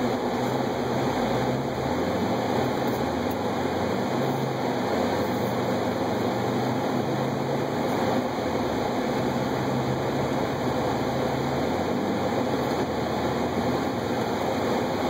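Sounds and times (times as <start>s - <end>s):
car engine humming: 0.0s - 15.0s
tyre and road noise: 0.0s - 15.0s.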